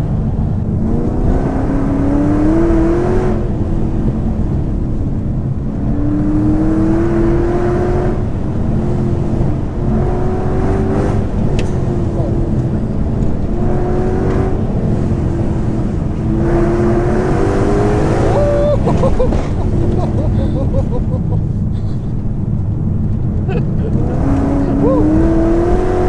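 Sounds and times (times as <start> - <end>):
car engine accelerating hard: 0.0 - 26.0
road rumble: 0.0 - 26.0.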